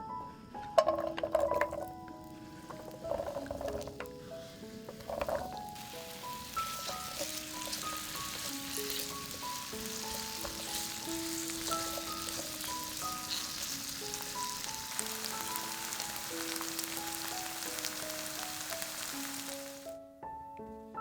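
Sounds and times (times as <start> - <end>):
piano background music: 0.0 - 21.0
food sizzling in hot oil: 0.8 - 19.9.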